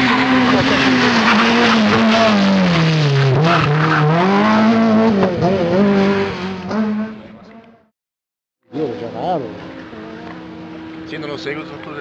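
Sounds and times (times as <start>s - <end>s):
rally car engine at high revs: 0.0s - 7.9s, 8.7s - 12.0s.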